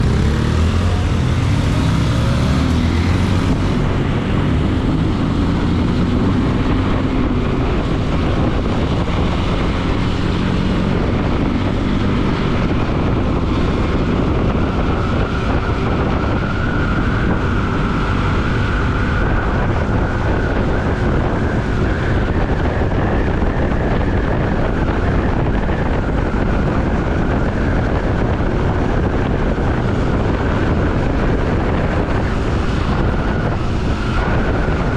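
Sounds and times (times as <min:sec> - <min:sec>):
wind noise on microphone: 0:00.0 - 0:34.9.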